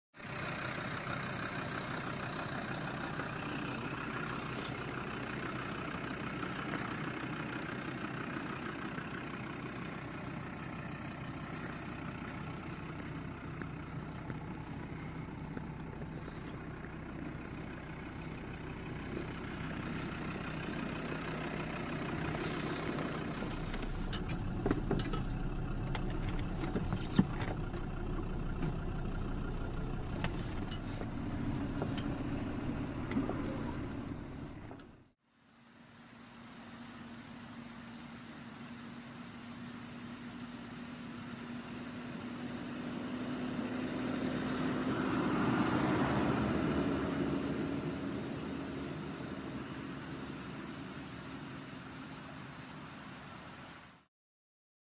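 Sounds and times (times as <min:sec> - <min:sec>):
diesel engine idling: 0:00.2 - 0:35.2, 0:36.3 - 0:53.5.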